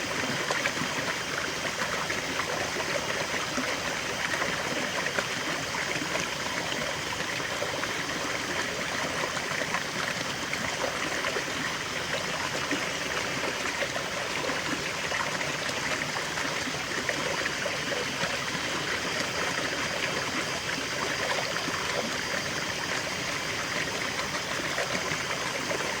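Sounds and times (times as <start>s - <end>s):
stream water babbling: 0.0s - 26.0s.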